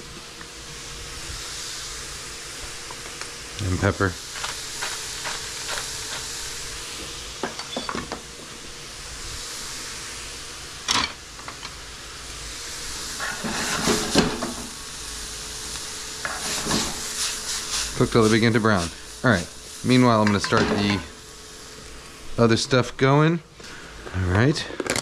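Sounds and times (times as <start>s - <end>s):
vegetables sizzling in oil: 0.0s - 22.6s.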